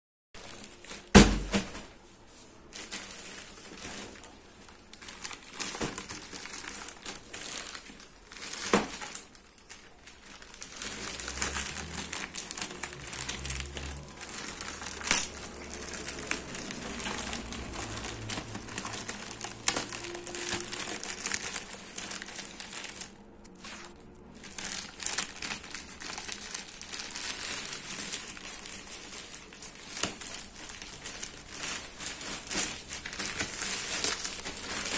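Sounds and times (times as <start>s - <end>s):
plastic packaging crinkling: 0.4s - 1.8s, 2.5s - 34.9s.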